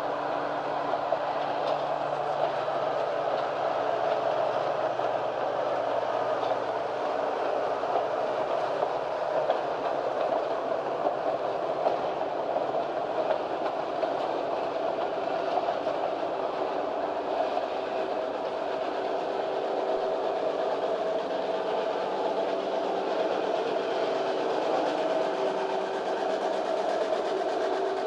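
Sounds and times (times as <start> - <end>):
faint train wheel clicks: 0.0 - 28.0
train cars rumbling and rattling: 0.0 - 28.0.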